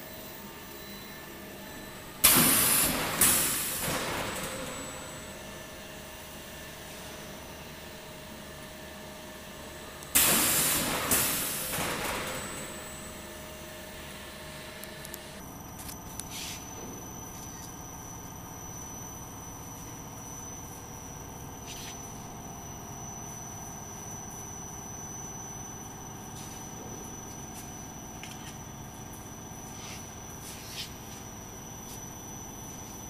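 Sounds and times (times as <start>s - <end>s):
machinery high whine: 0.0s - 33.0s.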